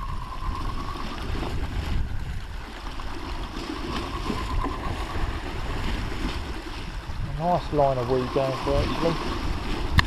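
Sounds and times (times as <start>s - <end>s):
waves against sea wall: 0.0s - 10.0s
wind on microphone: 0.0s - 10.0s.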